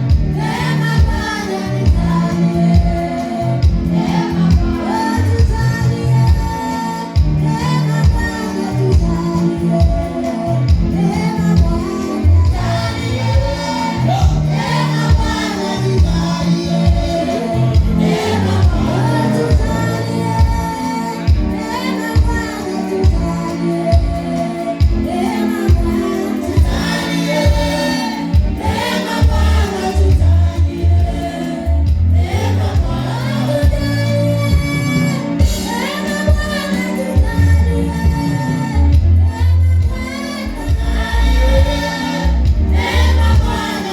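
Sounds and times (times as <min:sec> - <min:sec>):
band with pulsing bass beat: 0:00.0 - 0:43.9
women and choir singing: 0:00.0 - 0:43.9.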